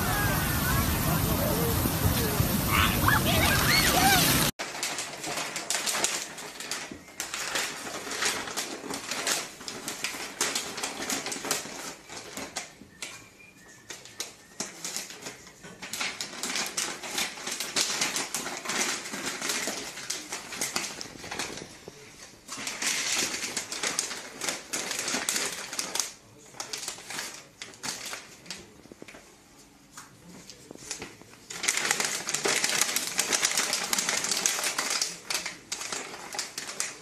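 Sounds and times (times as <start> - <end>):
paper rustling and crinkling: 0.0 - 37.0.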